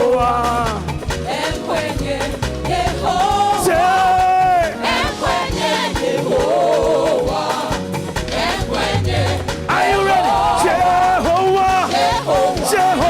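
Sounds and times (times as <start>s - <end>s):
band with bass and drums: 0.0s - 13.0s
singers holding wavering notes: 1.3s - 13.0s.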